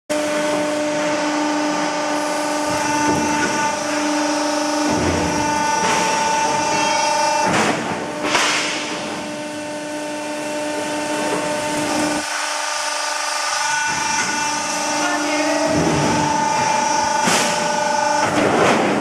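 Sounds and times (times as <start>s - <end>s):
machine hum and whine: 0.1s - 19.0s
low machine rumble: 0.2s - 19.0s.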